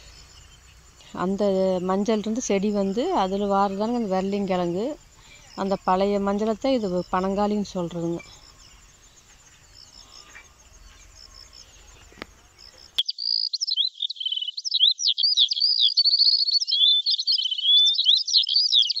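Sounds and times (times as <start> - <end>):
birds chirping and twittering: 0.0 - 19.0
insects chirping: 0.0 - 19.0.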